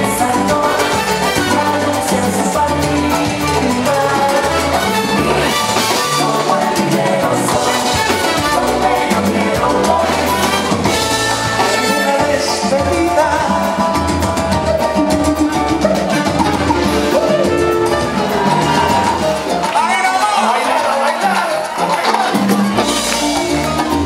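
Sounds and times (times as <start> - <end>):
man singing into a microphone: 0.0 - 21.5
live salsa band music: 0.0 - 24.0.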